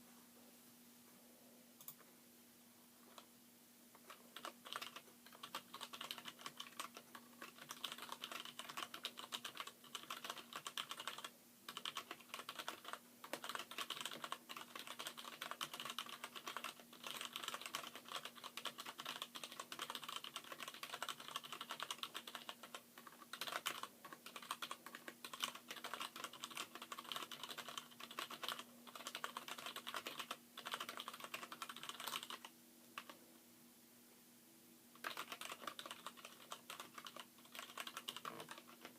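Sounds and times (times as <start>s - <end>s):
fast typing on mechanical keyboard: 4.0s - 33.2s, 35.0s - 38.9s.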